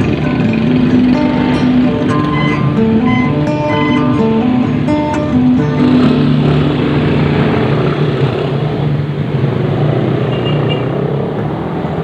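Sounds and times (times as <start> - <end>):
car engines in slow traffic: 0.0 - 12.0
jeepney engine: 0.0 - 12.0
motorcycle engines: 0.0 - 12.0.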